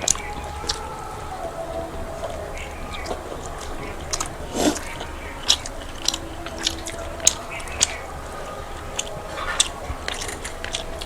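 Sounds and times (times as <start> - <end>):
chewing with wet mouth smacks: 0.0 - 11.0.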